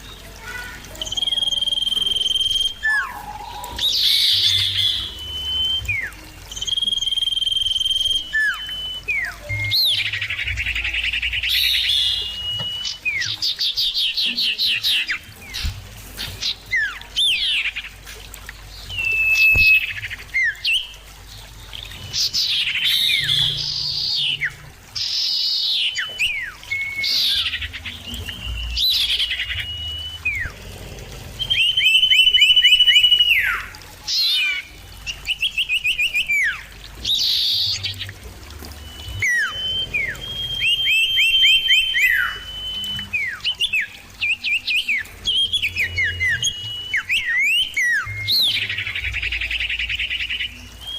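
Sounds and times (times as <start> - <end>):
birds whistling calls: 0.0 - 18.0, 18.7 - 50.9.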